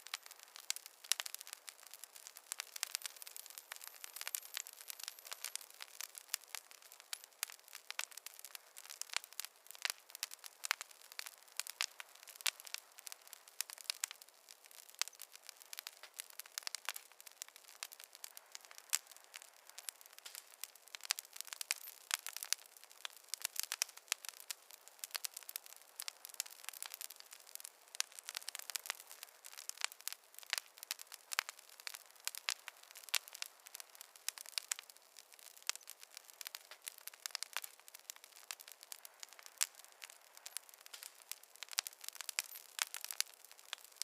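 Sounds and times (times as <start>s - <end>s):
faint hiss: 0.0s - 44.0s
fire crackling and popping: 0.0s - 44.0s.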